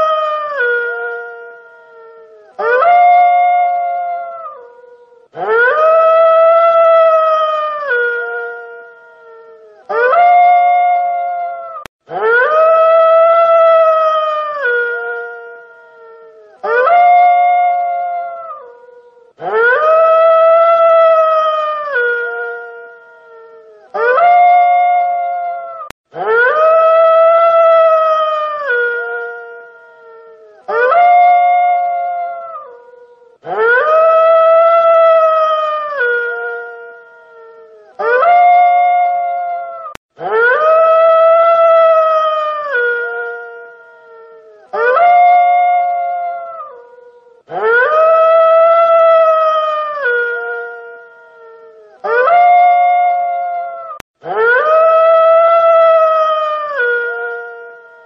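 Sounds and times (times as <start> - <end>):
wolf howling: 0.0 - 58.0.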